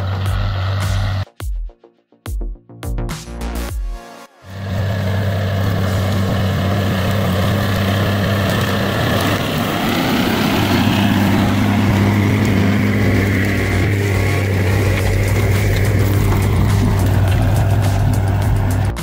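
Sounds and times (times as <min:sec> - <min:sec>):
diesel engine running: 0:00.0 - 0:01.3, 0:04.5 - 0:19.0.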